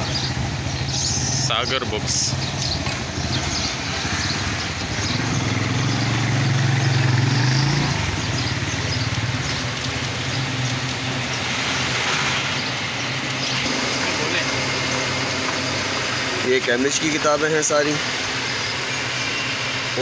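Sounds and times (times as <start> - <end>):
street traffic: 0.0 - 20.0
vehicle engine running nearby: 0.0 - 20.0.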